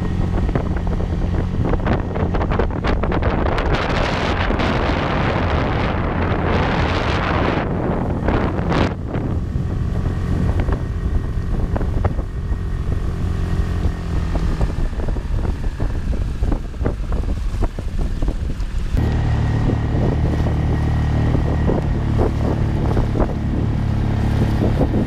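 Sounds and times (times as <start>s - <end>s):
outboard motor running: 0.0s - 25.0s
water splashing against hull: 0.0s - 25.0s
wind buffeting microphone: 0.0s - 25.0s.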